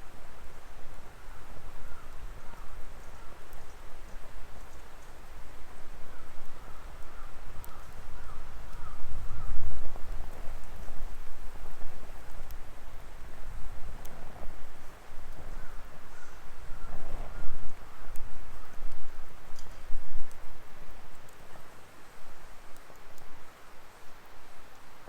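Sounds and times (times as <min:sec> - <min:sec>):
fire crackles: 0:00.1 - 0:25.0.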